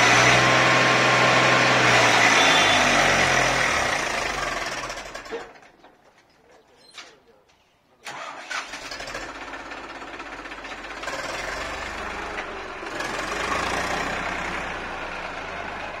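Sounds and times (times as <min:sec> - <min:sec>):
tractor diesel engine running: 0:00.0 - 0:05.8, 0:08.1 - 0:16.0.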